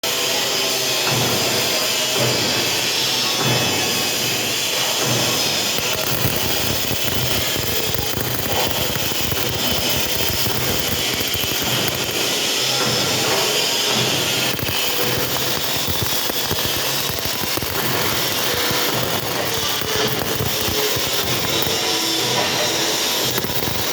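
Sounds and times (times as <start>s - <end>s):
welding arc crackling hiss: 0.1s - 23.9s.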